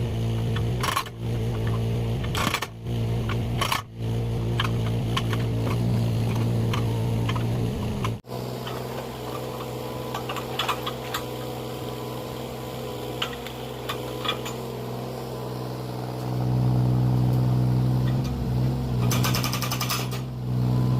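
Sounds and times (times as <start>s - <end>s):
mini excavator engine running: 0.0s - 20.9s.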